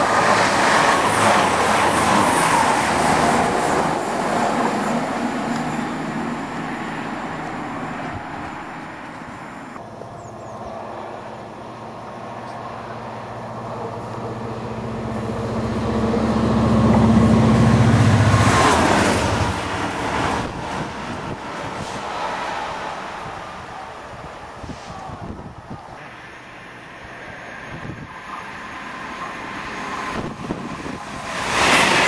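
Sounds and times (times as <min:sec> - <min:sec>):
diesel locomotive engine passing: 0:00.0 - 0:32.0
diesel train rushing past: 0:00.0 - 0:32.0.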